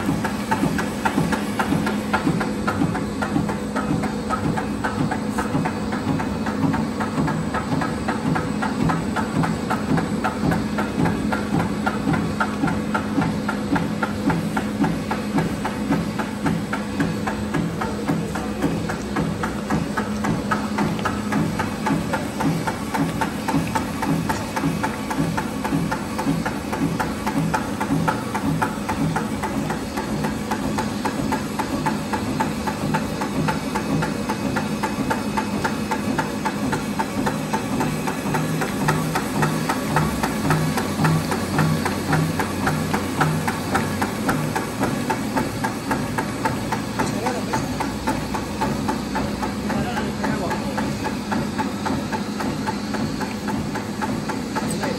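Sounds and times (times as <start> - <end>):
die-cutting machine clatter: 0.0 - 54.9
steady machine hum: 0.0 - 54.9.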